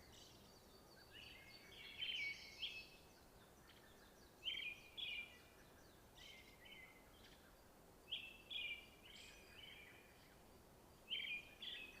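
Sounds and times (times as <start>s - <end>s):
faint steady hiss: 0.0s - 12.0s
small songbirds chirping: 0.0s - 12.0s.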